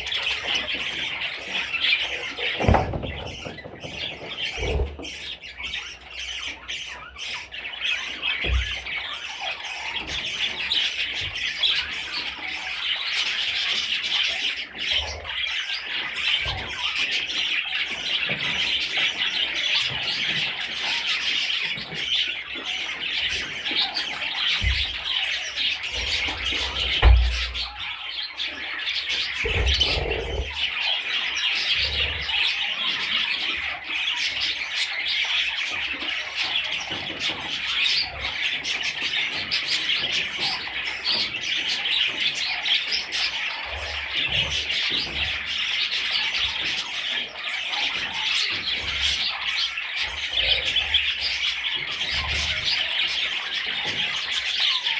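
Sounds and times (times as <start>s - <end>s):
budgerigars chattering and squawking: 0.0s - 54.9s.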